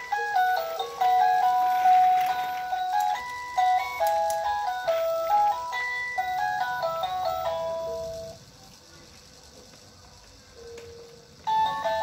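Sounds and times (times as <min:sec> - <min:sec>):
electronic toy jingle: 0:00.0 - 0:08.4, 0:10.6 - 0:12.0.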